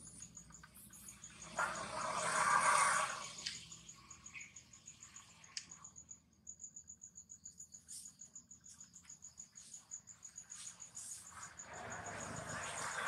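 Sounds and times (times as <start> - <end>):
faint insect chirping: 0.0 - 13.0.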